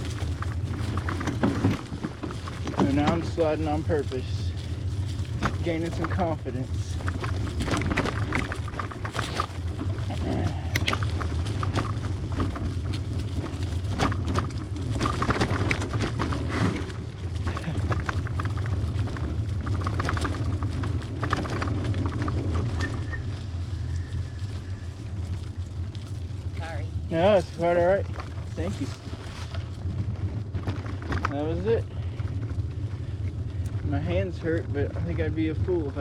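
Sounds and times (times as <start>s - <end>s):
bicycle rattling over bumps: 0.0s - 36.0s
low rumble: 0.0s - 36.0s.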